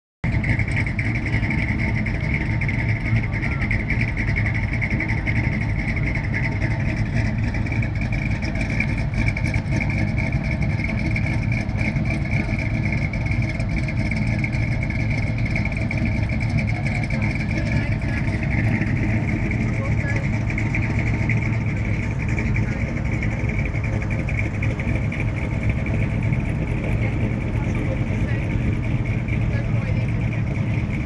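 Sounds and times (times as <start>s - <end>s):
car engine rumbling: 0.2s - 31.0s.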